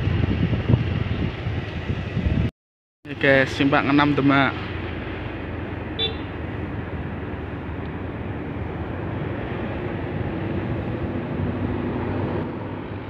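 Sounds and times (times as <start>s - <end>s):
wind and road noise: 0.0s - 2.5s, 3.1s - 13.0s.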